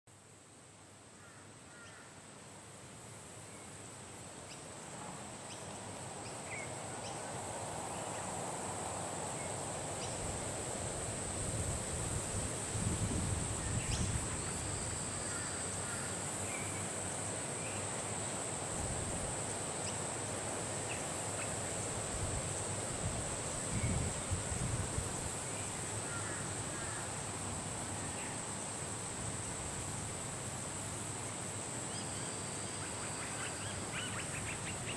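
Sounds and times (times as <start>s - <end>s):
insect drone: 0.2s - 34.9s.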